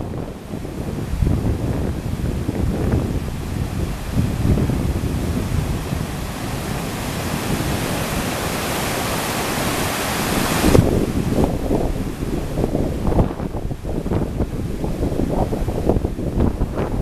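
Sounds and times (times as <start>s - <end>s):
whitewater rapids rushing: 0.0s - 17.0s
wind buffeting microphone: 0.0s - 17.0s.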